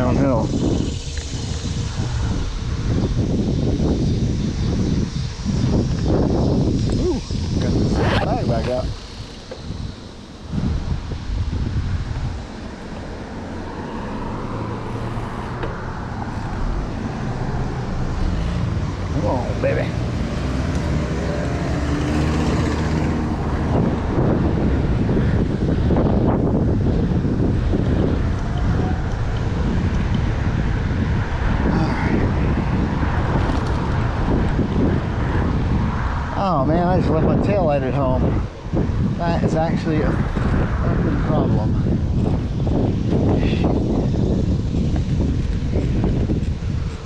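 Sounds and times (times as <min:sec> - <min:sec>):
road traffic rumble and hiss: 0:00.0 - 0:47.0
wind buffeting microphone: 0:00.0 - 0:47.0.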